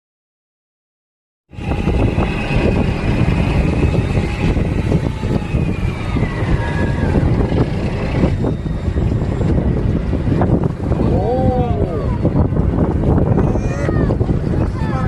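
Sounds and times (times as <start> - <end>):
boat engine running: 1.5 - 15.0
wind noise: 1.5 - 15.0.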